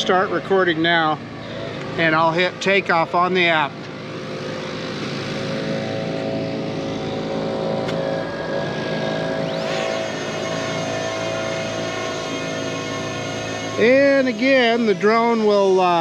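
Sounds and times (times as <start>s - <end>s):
drone propellers whining: 0.0s - 16.0s
lawnmower engines droning: 0.0s - 16.0s.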